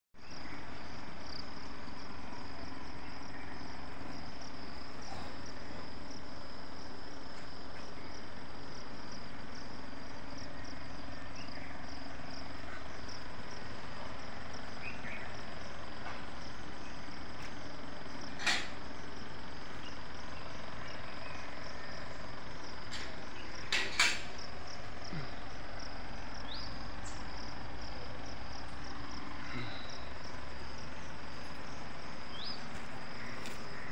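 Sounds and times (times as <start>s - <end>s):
insects chirring: 0.2s - 33.9s.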